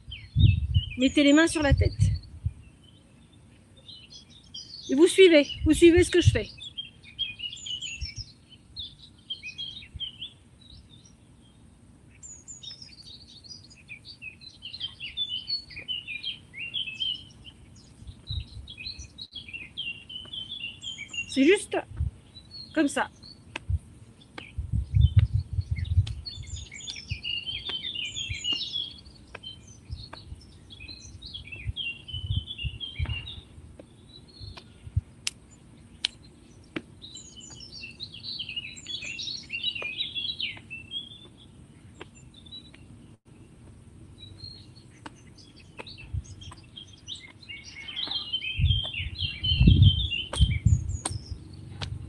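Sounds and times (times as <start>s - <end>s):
wild birds chirping and singing: 0.0s - 52.0s.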